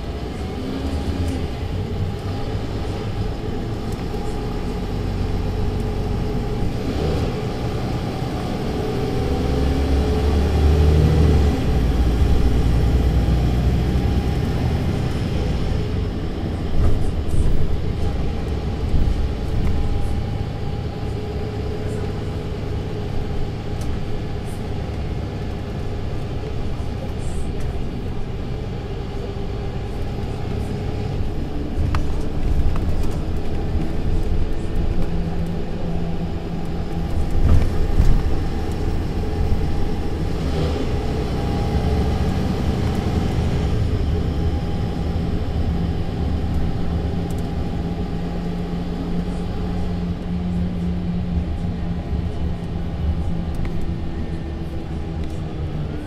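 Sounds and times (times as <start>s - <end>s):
bus diesel engine whining: 0.0s - 56.0s.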